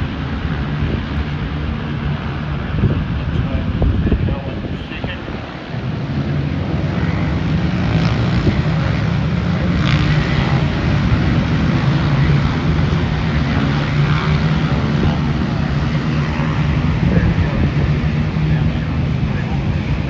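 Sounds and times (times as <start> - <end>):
loud engine running: 0.0 - 20.0.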